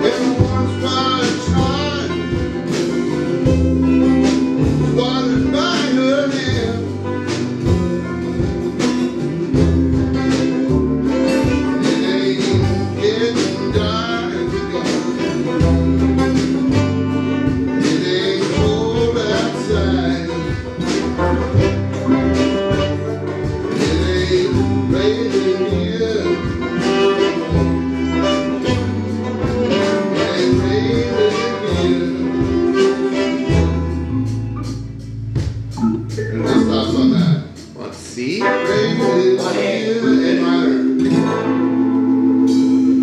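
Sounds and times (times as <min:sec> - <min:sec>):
person singing: 0:00.0 - 0:03.6, 0:04.3 - 0:16.7, 0:17.4 - 0:27.6, 0:29.6 - 0:33.7, 0:35.8 - 0:42.6
country band playing: 0:00.0 - 0:43.0.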